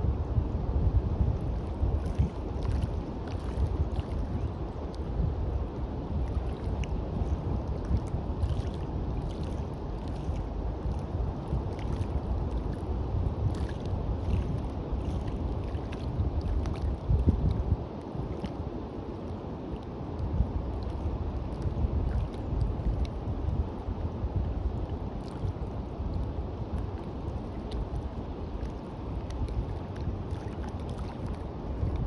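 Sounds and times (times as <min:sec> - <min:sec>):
waves washing on a beach: 0:00.0 - 0:32.0
wind rumbling on microphone: 0:00.0 - 0:32.0.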